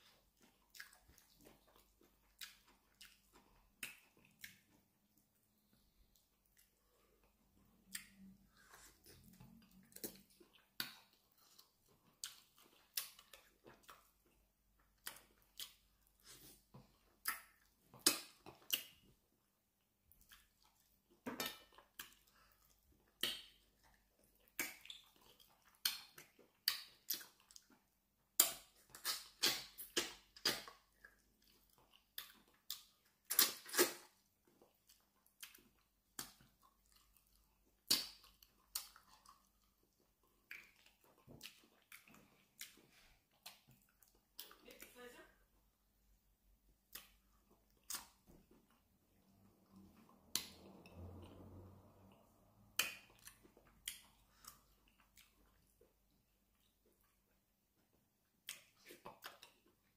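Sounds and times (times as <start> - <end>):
wet chewing and smacking: 0.0 - 59.9.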